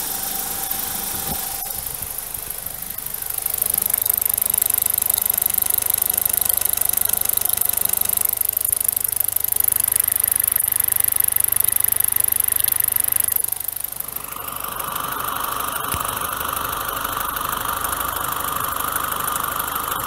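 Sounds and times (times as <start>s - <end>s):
car engine idling with ticking: 0.0s - 20.0s.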